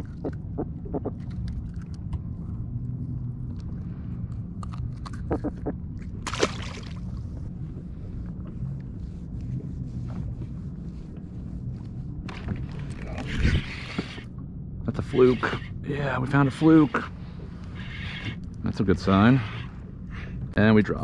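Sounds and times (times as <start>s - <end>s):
water and wind rumble around hull: 0.0s - 21.0s.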